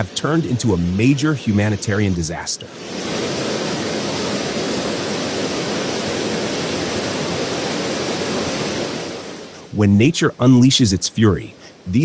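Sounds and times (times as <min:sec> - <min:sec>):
heavy water rushing: 0:00.0 - 0:12.0.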